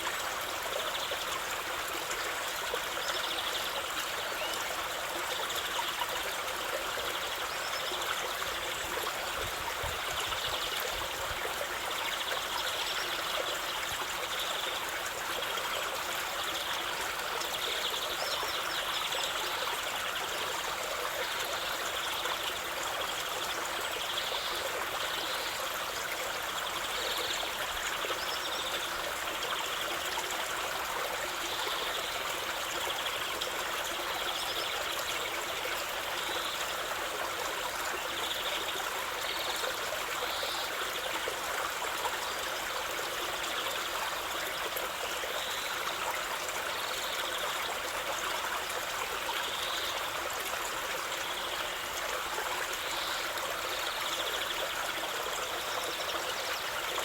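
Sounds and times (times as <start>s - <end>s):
stream of water trickling: 0.0s - 57.0s.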